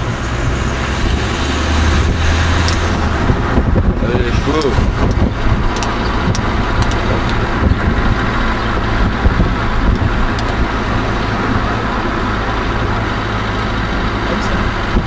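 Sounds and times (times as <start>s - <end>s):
low engine hum: 0.0s - 15.0s
tyre and wind noise: 0.0s - 15.0s.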